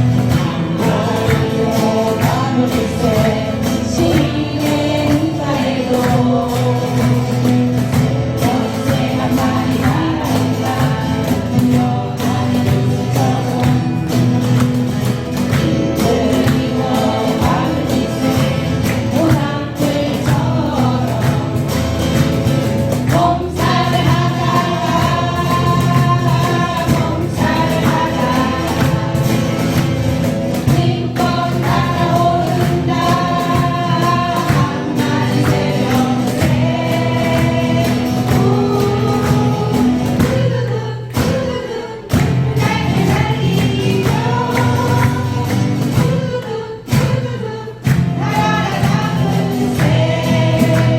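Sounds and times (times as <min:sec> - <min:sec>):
acoustic guitars strumming: 0:00.0 - 0:50.9
group of people singing: 0:00.0 - 0:50.9.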